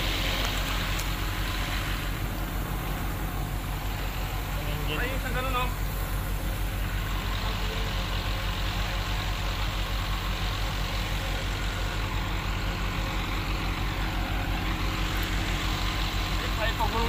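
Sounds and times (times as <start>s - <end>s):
large diesel engine idling: 0.0s - 17.0s.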